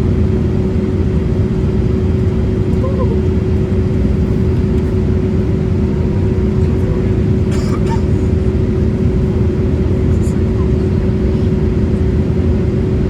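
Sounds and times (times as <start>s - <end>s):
airplane cabin engine rumble: 0.0s - 13.0s
constant hum: 0.0s - 13.0s.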